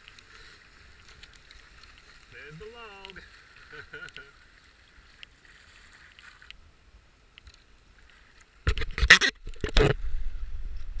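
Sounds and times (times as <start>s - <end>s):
rushing water: 0.0s - 10.1s
water splashing against hull: 0.0s - 10.2s.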